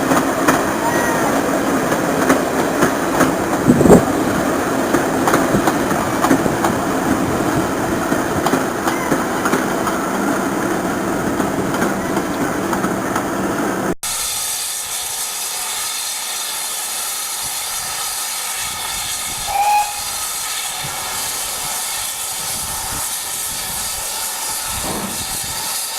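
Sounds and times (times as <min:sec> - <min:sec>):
train rumbling on track: 0:00.0 - 0:25.9.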